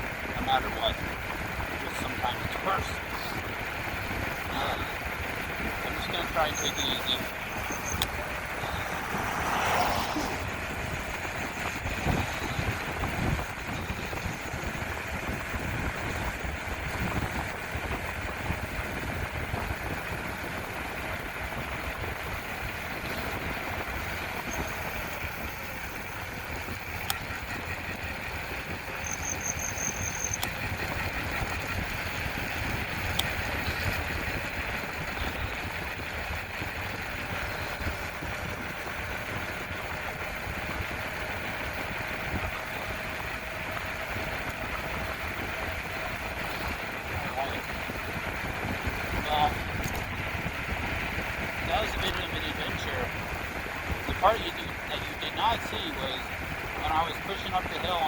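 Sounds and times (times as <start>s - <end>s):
bicycle tyres rolling on pavement: 0.0s - 58.0s
low rumbling wind buffeting: 0.0s - 58.0s.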